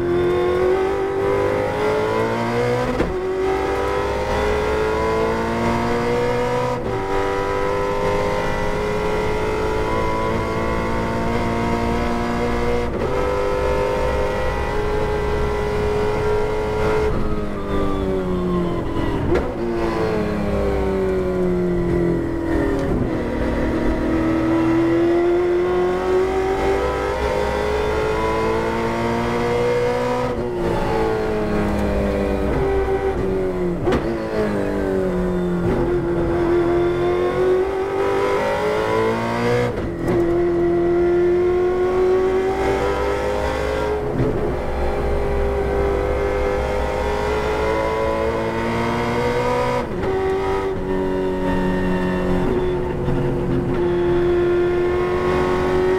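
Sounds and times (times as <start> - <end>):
race car engine at speed: 0.0 - 55.9.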